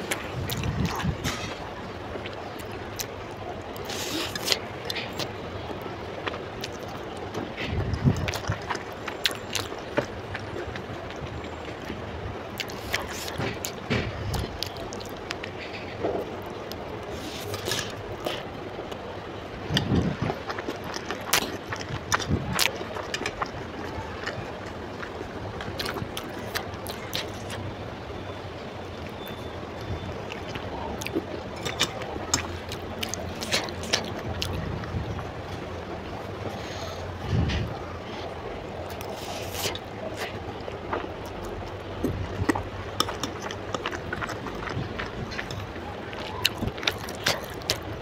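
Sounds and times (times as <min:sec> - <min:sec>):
chewing noodles with mouth clicks: 0:00.0 - 0:05.4, 0:06.2 - 0:19.0, 0:19.7 - 0:35.7, 0:36.5 - 0:48.0.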